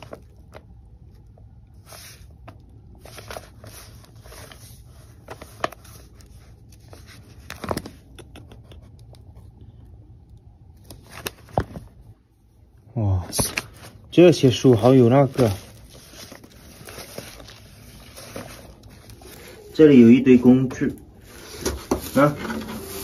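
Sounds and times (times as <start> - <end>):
books and papers rustling: 0.0 - 9.6, 10.7 - 12.2, 13.0 - 23.0
low steady hum: 0.0 - 23.0.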